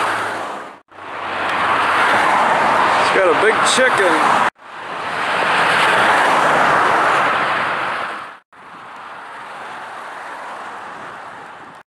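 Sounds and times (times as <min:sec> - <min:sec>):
vehicle rushing past: 0:00.0 - 0:11.6
highway traffic: 0:00.0 - 0:11.9.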